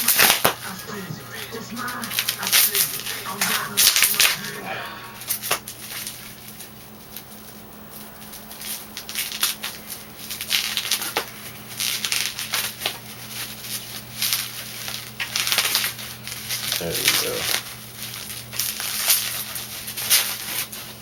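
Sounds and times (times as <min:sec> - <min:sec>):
low hum: 0:00.0 - 0:20.1
plastic packaging crinkling: 0:00.0 - 0:21.0.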